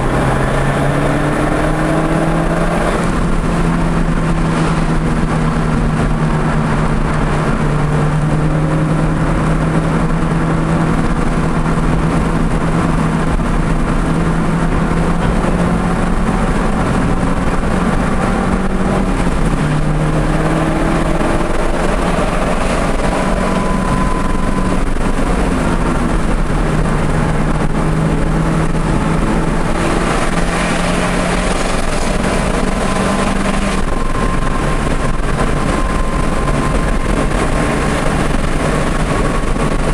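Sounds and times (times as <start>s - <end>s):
car engine under load: 0.0s - 39.9s
wind and road noise: 0.0s - 39.9s.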